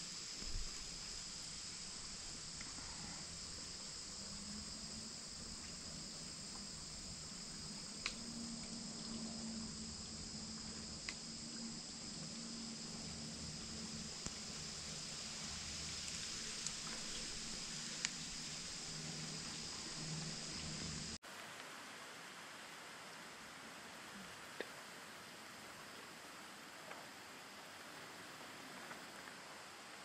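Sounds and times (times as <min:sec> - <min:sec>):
crickets chirping: 0:00.0 - 0:21.2, 0:22.3 - 0:30.0.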